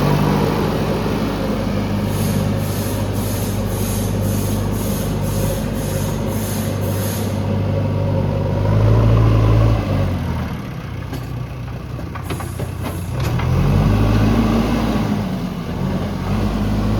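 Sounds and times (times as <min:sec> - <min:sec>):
diesel engine revving: 0:00.0 - 0:16.9.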